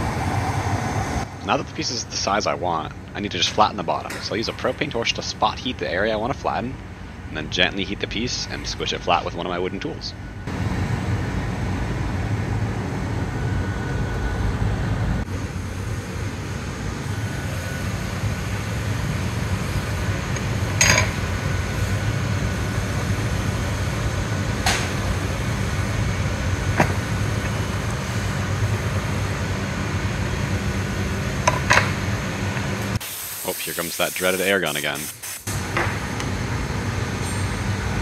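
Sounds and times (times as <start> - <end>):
burner and fans roaring: 0.0 - 33.0, 34.0 - 38.0.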